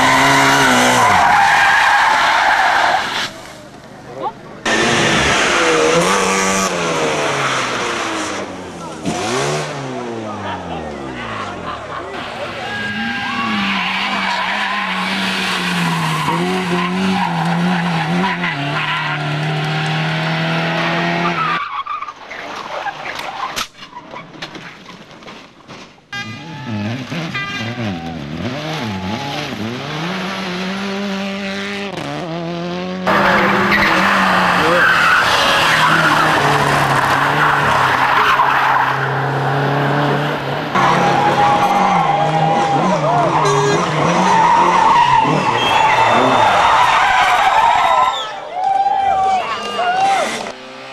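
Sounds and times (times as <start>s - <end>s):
rally car engine revving: 0.0s - 3.6s, 4.6s - 21.7s, 26.2s - 47.9s, 49.5s - 50.9s.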